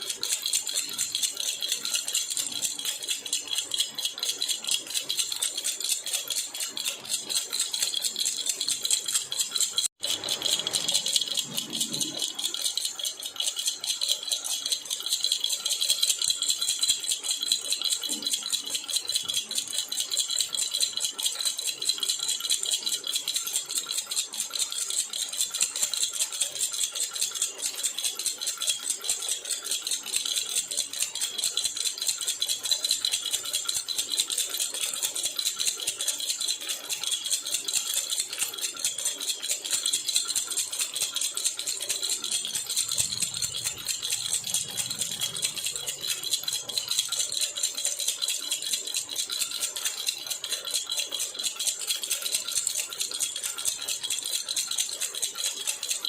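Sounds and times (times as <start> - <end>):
baby rattle shaking: 0.0 - 56.0.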